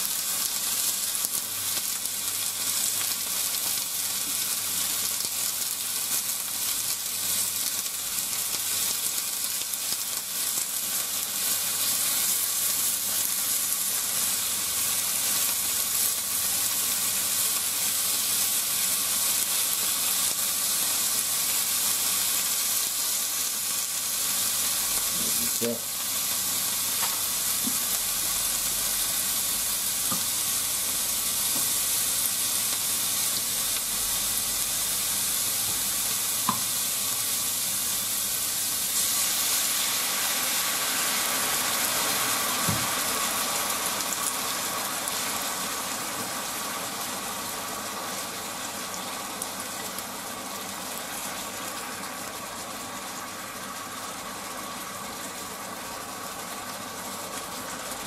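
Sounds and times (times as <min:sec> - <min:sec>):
meat and onion sizzling in a pan: 0:00.0 - 0:58.0
sauce pouring into a hot pan: 0:00.1 - 0:58.0.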